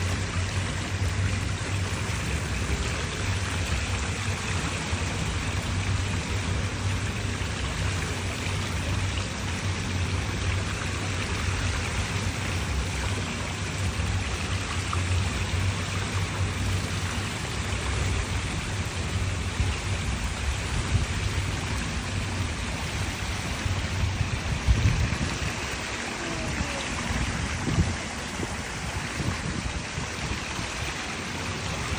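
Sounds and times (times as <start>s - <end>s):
water rushing: 0.0s - 31.9s.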